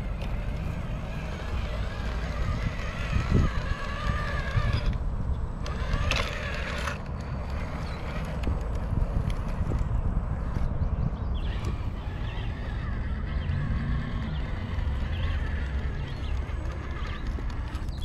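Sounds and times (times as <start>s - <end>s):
electric motor and gear whine: 0.0s - 18.0s.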